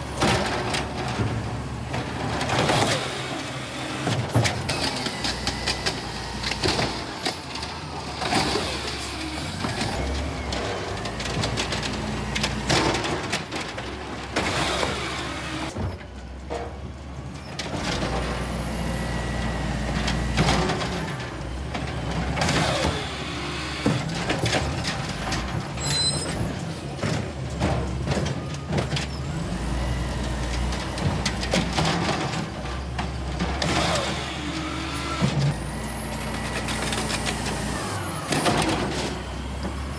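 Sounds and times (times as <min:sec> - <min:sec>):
truck engine: 0:00.0 - 0:39.9.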